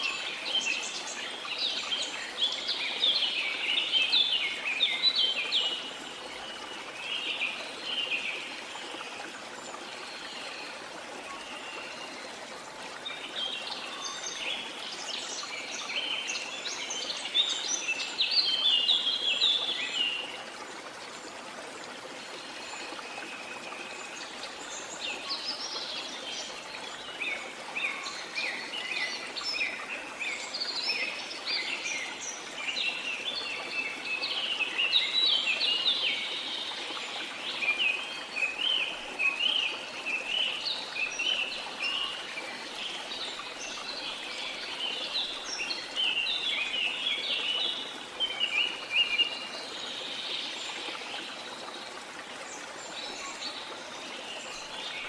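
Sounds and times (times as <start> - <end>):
flowing water: 0.0 - 55.0.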